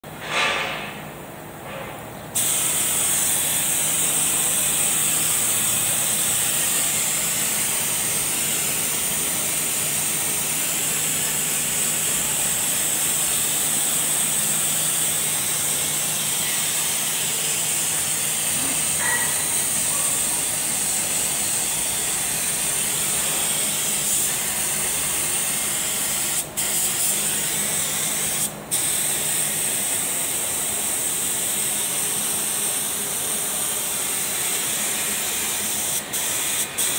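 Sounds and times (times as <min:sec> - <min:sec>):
paint spray gun hissing: 0:02.4 - 0:36.9.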